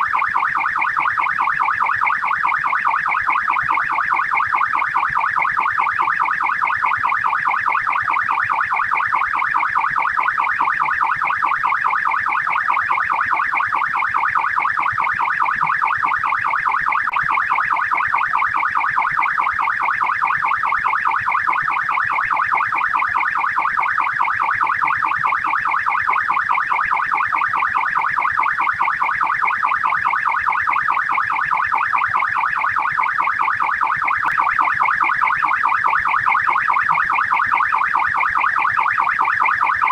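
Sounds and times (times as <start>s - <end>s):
police siren fast yelp: 0.0s - 39.9s.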